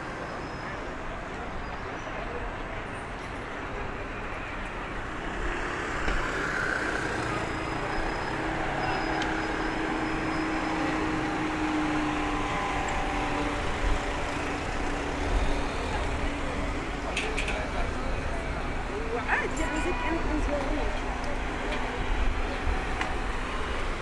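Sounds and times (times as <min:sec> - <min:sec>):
cars passing on road: 0:00.0 - 0:24.0.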